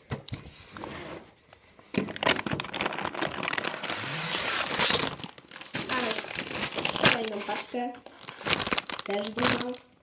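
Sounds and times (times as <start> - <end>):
plastic bags crinkling: 1.9 - 10.0.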